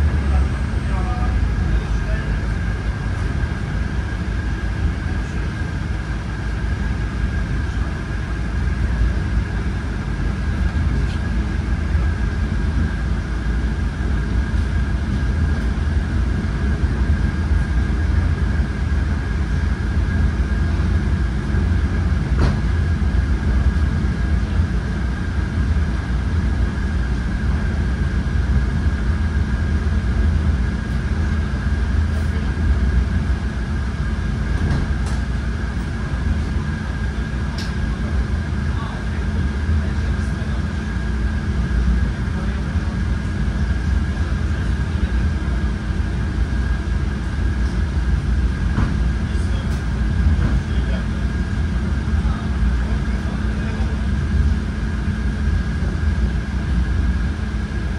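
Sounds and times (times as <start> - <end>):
high-pitched whine: 0.0 - 57.9
train running gear rumble: 0.0 - 57.9.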